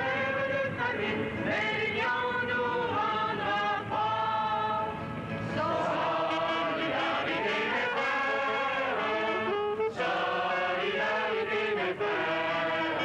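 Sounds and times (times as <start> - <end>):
crowd singing together: 0.0 - 13.0.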